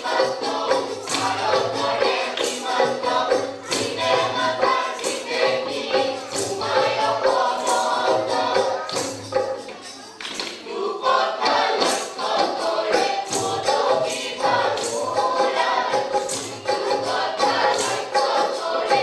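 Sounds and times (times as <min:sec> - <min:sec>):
group of voices singing: 0:00.0 - 0:19.0
rhythmic hand percussion: 0:00.0 - 0:19.0.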